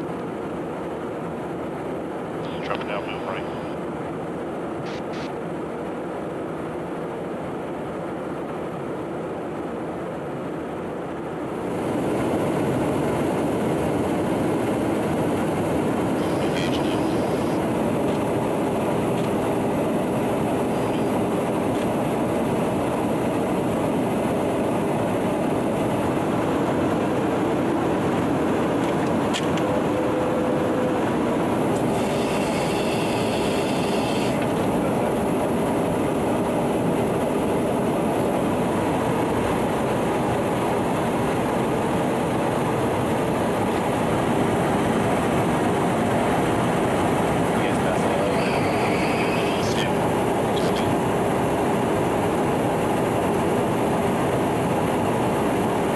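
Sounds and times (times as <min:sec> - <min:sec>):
aircraft cabin engine roar: 0:00.0 - 0:55.9
faint hum of tones: 0:00.0 - 0:55.9.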